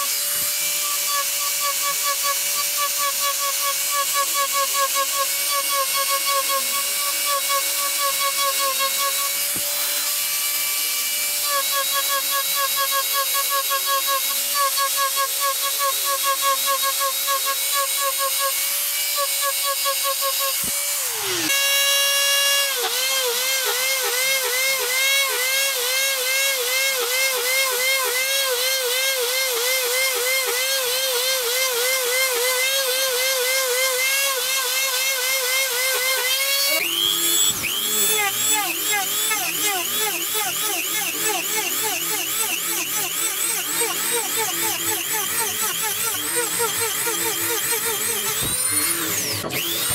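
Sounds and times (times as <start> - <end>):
rotary power tool whining: 0.0 - 49.9.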